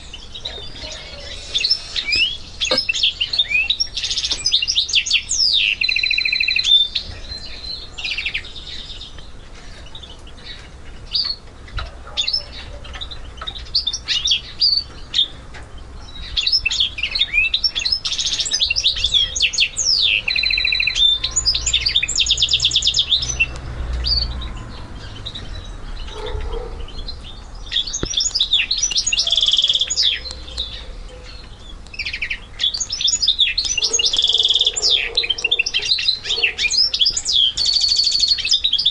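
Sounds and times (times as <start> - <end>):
bird twittering and trilling: 0.0 - 38.9.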